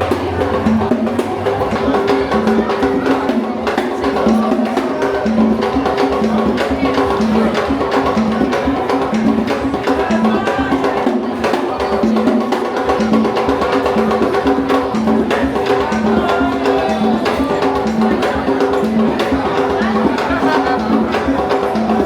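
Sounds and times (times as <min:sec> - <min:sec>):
drums: 0:00.0 - 0:22.0
wood-block-like percussion clacking: 0:00.0 - 0:22.0.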